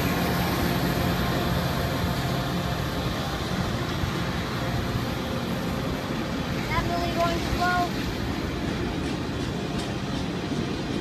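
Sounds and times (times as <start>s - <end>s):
diesel train engine droning: 0.0s - 11.0s.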